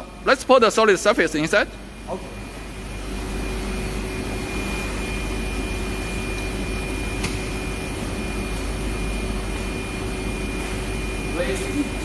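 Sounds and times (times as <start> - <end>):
oven fans whirring: 0.0 - 12.0
steady hum: 0.0 - 12.0.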